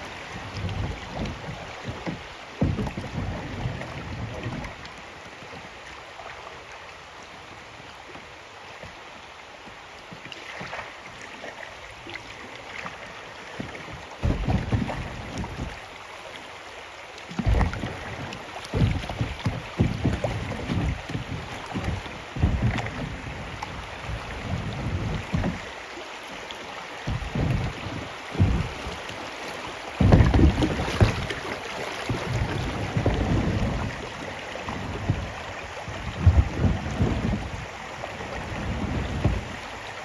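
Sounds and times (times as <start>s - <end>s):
paddle splashing: 0.0s - 40.0s
river water wash: 0.0s - 40.0s.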